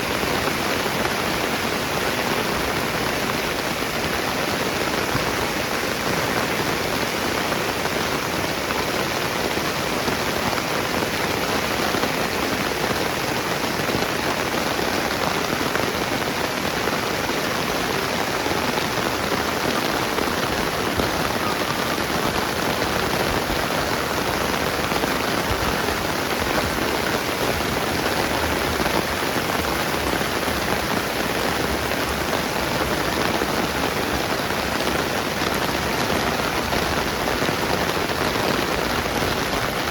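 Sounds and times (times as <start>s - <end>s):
rain pattering on ground: 0.0s - 39.9s.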